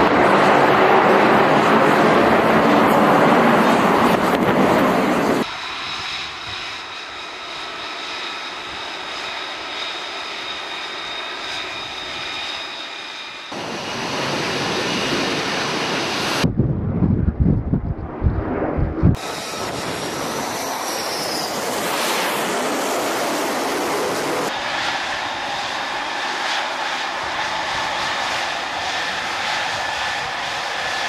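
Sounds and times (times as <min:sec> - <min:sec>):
high-pitched jet whine: 0:00.0 - 0:16.5, 0:18.0 - 0:31.0
jet engine roar: 0:00.0 - 0:31.0.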